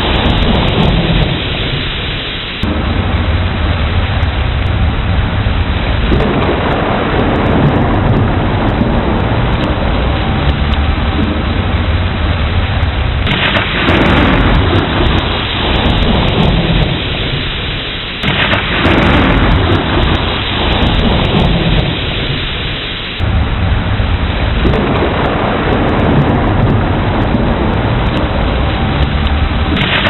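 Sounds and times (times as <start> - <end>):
heavy rain: 0.0 - 30.0
thunder rumble and claps: 0.0 - 30.0.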